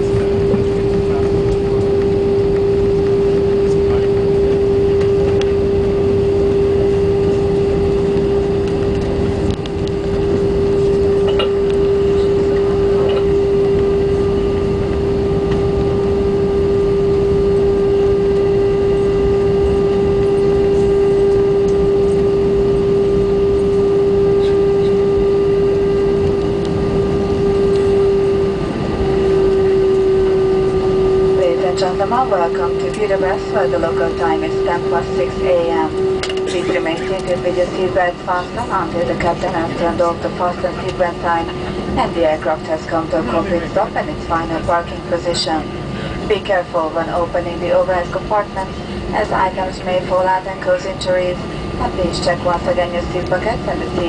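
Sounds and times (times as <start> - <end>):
low engine and airflow rumble: 0.0 - 54.0
mid-pitched hum: 0.0 - 54.0.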